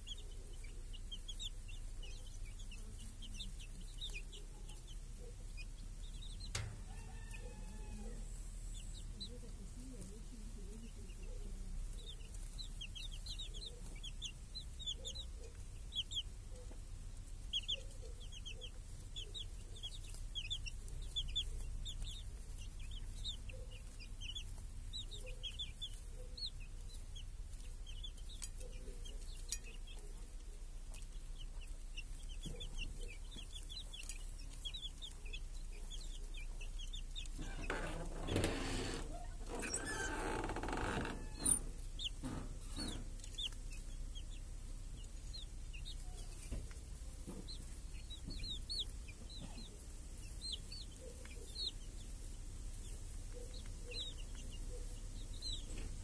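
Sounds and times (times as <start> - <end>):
chicks peeping: 0.0 - 56.0
hen clucking: 0.0 - 56.0
rustling and scratching: 0.0 - 56.0.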